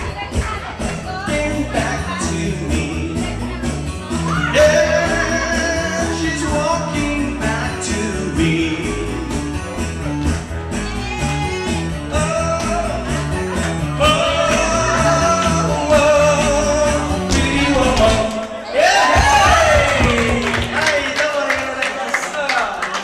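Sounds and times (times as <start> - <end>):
guitar: 0.0 - 20.6
bass line: 0.0 - 20.8.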